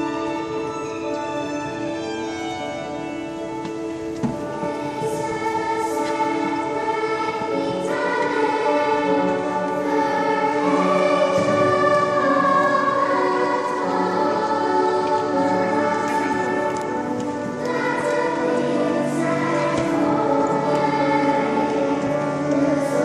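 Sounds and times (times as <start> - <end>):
children's choir singing: 0.0 - 23.0.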